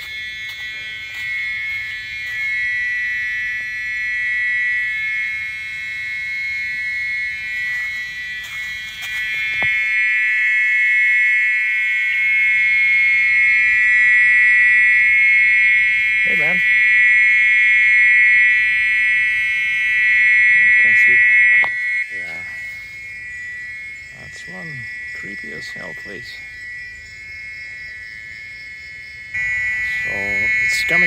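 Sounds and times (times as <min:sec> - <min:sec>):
electric buzzing animal call: 0:00.0 - 0:31.0.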